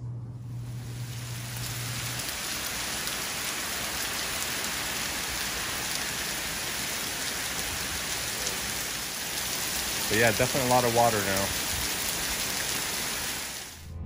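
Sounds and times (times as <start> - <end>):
heavy rain pouring on street: 0.6 - 13.8.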